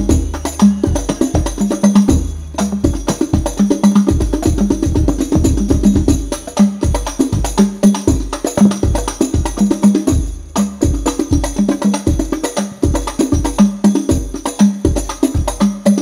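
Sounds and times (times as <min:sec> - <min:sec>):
booming bass drum hits: 0:00.0 - 0:13.5
frame drums and tambourine rhythm: 0:00.0 - 0:16.0.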